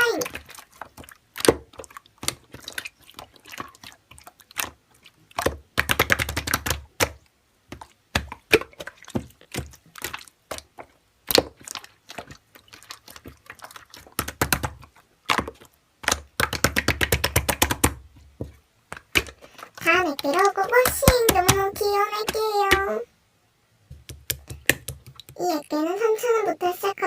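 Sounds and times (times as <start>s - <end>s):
slime squished by hand: 0.0s - 18.1s, 18.9s - 23.0s.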